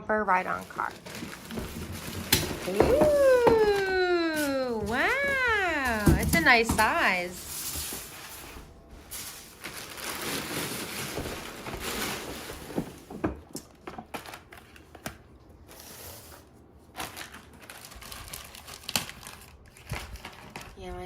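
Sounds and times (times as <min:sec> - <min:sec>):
packaging crinkling and rustling: 0:00.4 - 0:21.0.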